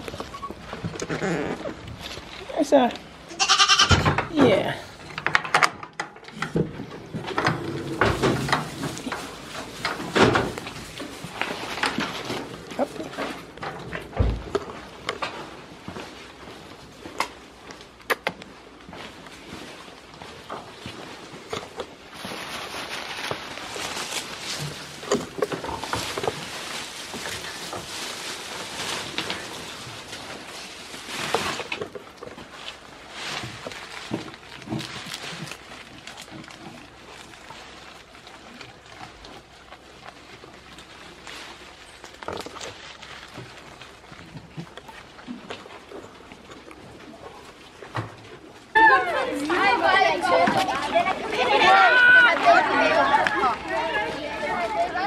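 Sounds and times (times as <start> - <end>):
rustling and shuffling: 0.0 - 55.0.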